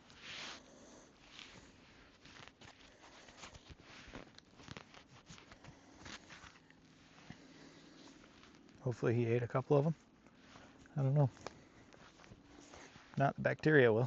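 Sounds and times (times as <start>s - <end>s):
faint footsteps crunching: 0.0s - 14.0s.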